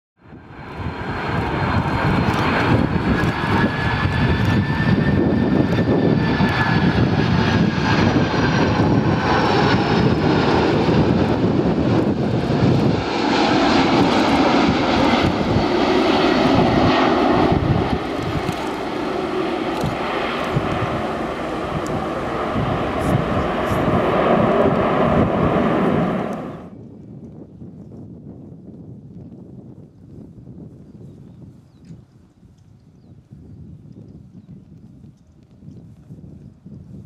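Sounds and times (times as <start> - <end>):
jet airliner rumble and whine: 0.2 - 37.0.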